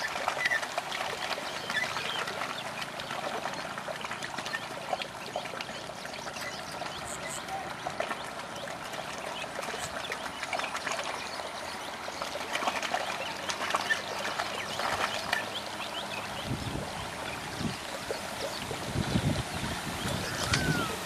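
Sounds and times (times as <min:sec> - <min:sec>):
water splashing and squelching: 0:00.0 - 0:21.0.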